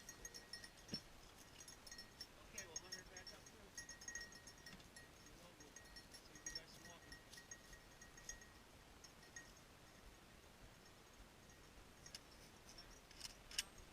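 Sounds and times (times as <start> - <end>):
small bell tinkling: 0.0 - 13.9.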